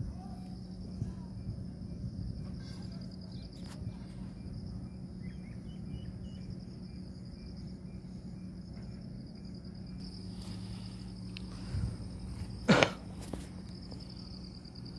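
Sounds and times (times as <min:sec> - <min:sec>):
insects trilling: 0:00.0 - 0:14.9
steady low hum: 0:00.0 - 0:14.9.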